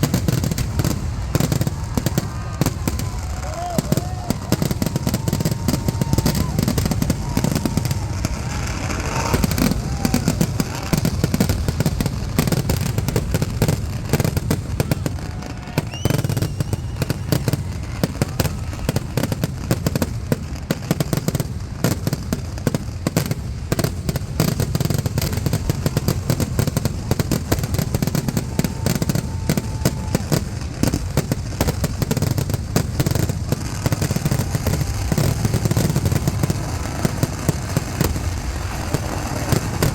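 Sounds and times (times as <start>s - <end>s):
firecracker barrage: 0.0s - 39.9s.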